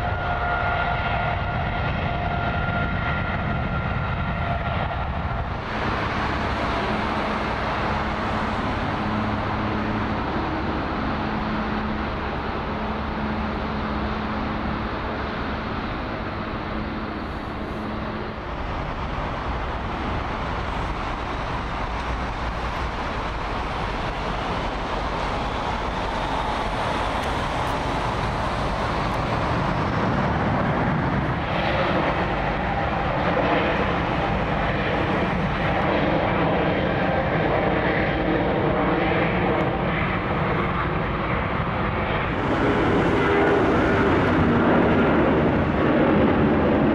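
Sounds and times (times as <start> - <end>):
jet engines rushing: 0.0 - 46.9.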